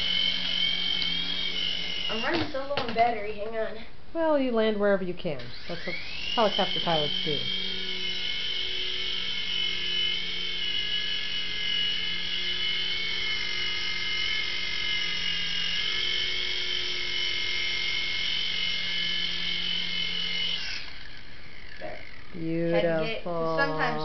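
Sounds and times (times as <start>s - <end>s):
toy helicopter rotor motors whining: 0.0s - 3.8s, 5.4s - 24.0s.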